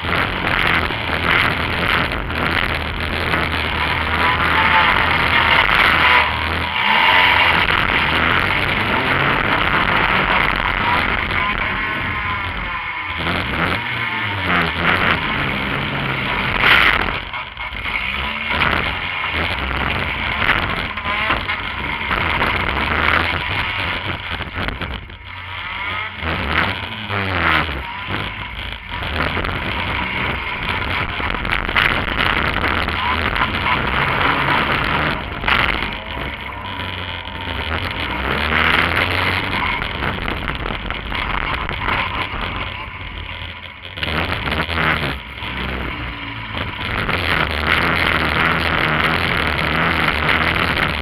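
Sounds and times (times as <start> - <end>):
car engine revving: 0.0 - 51.0
loud rattle and roar: 0.0 - 51.0.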